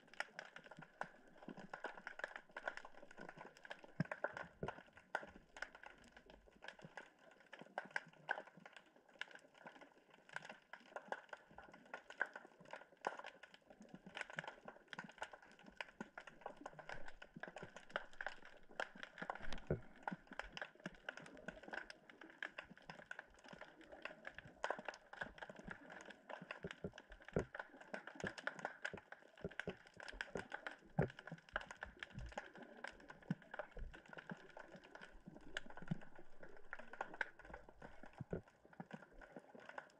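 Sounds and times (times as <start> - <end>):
underwater crackle: 0.0 - 39.9.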